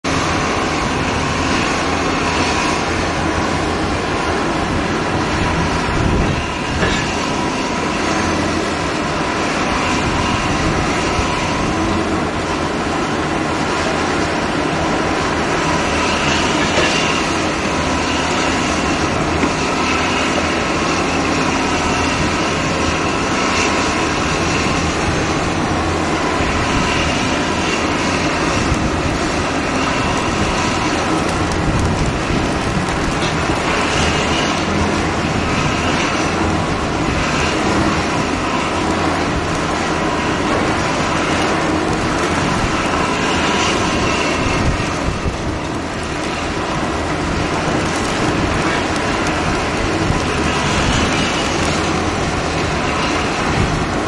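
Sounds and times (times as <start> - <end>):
faint machinery whine: 0.0 - 54.0
heavy machinery engine drone: 0.0 - 54.0.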